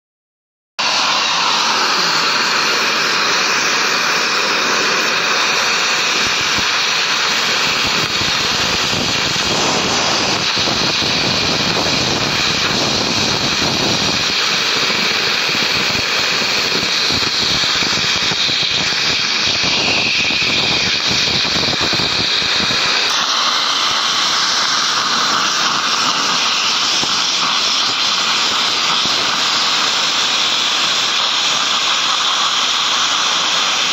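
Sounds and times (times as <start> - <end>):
gas cutting torch hissing: 0.8 - 33.9.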